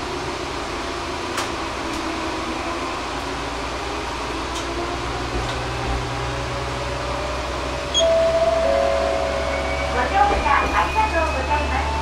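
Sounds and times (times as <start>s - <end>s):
railcar engine and wheels drone: 0.0s - 12.0s.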